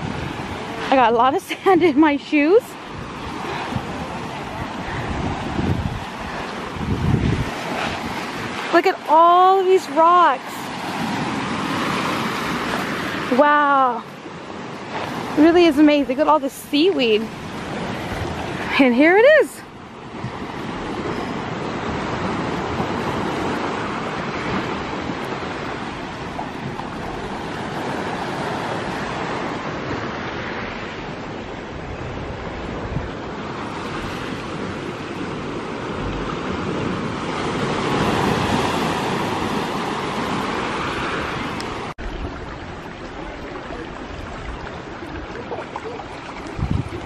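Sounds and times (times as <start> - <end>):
ocean surf over rocks and pebbles: 0.0 - 47.0.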